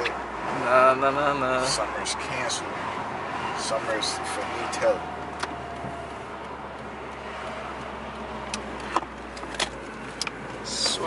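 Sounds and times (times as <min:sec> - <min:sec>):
car engine and road hum: 0:00.0 - 0:11.0.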